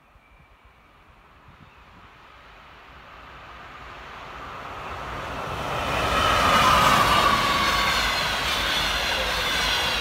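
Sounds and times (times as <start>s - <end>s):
electric train running on rails: 0.0s - 10.0s.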